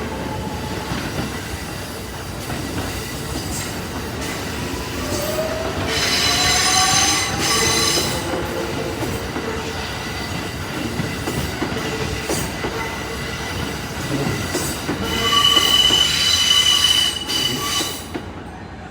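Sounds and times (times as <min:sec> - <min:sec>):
train rumbling over rails: 0:00.0 - 0:18.9
train wheels squealing: 0:00.6 - 0:18.9.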